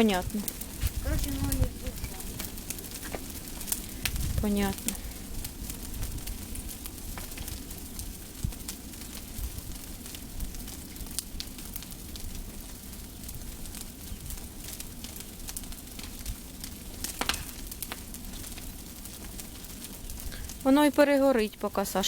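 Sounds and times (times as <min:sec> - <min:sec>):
sharp pops from fire: 0:00.0 - 0:21.8
bonfire crackling and hissing: 0:00.0 - 0:22.0.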